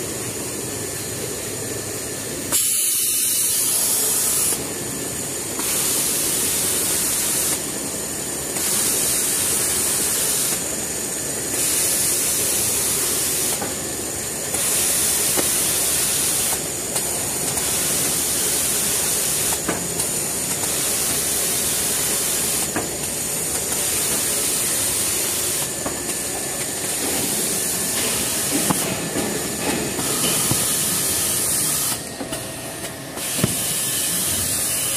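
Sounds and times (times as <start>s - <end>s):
machine hissing: 2.5s - 34.9s.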